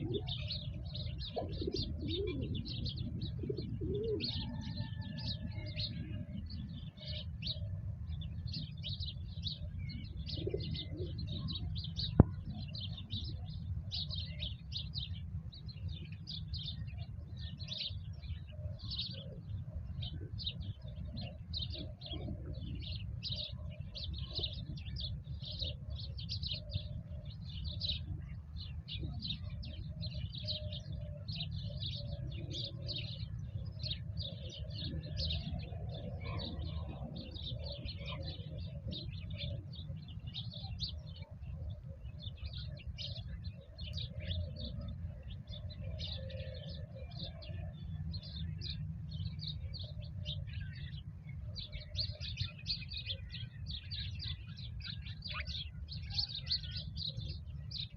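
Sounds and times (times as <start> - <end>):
dove cooing: 0.0 - 14.5, 16.7 - 48.9, 54.8 - 57.3
small birds chirping: 0.0 - 57.9.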